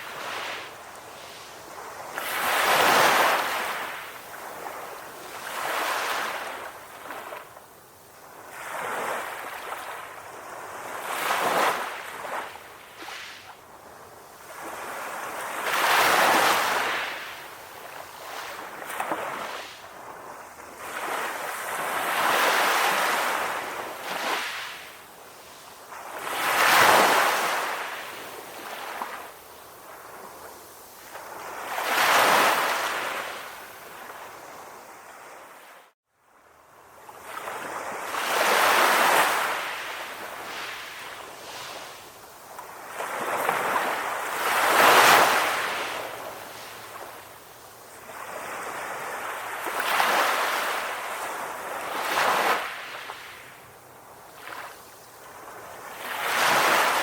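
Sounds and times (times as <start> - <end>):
ocean waves washing on shore: 0.0 - 36.0, 36.7 - 57.0.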